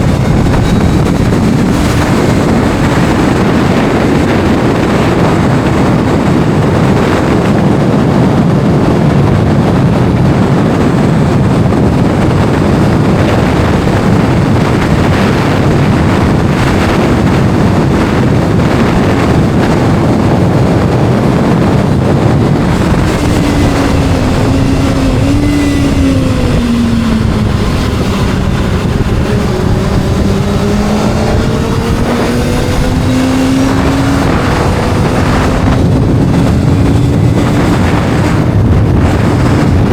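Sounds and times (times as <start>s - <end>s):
motorcycle engine at speed: 0.0s - 39.9s
wind buffeting microphone: 0.0s - 39.9s.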